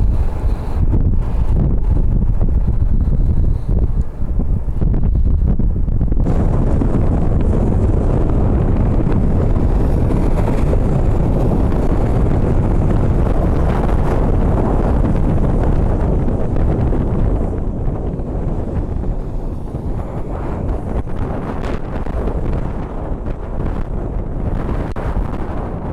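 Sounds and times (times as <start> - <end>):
gusty wind buffeting microphone: 0.0 - 25.9.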